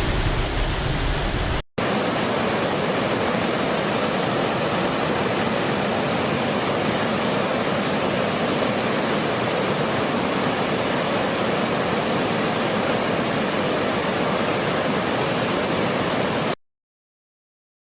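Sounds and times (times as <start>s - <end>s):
spring water gushing: 0.0s - 16.6s.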